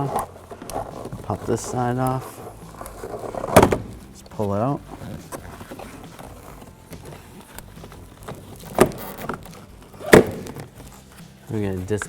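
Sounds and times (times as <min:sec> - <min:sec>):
plastic trim being handled: 0:00.0 - 0:12.0.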